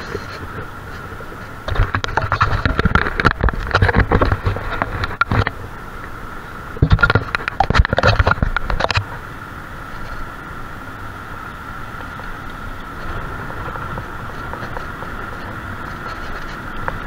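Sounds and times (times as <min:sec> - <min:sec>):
crackling buffeting rumble: 0:00.0 - 0:17.0.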